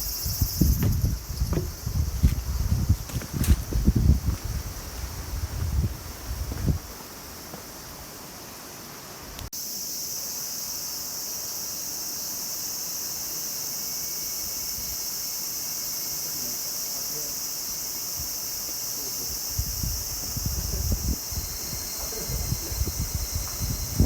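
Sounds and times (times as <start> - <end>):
faint wind: 0.0 - 9.8, 12.7 - 24.0
insects chorus: 0.0 - 24.0.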